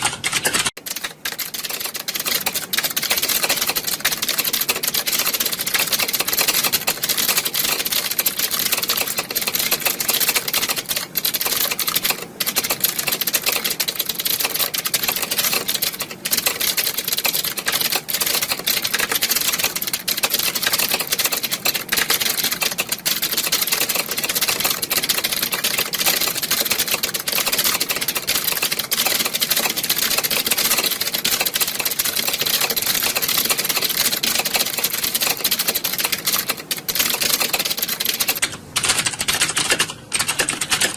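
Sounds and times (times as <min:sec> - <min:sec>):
keyboards clattering: 0:00.0 - 0:40.9.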